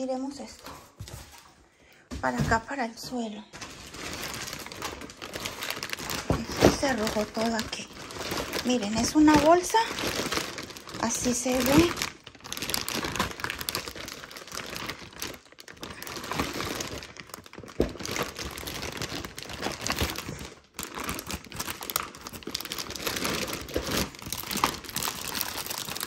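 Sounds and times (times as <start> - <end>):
plastic packaging crinkling: 3.5 - 26.0.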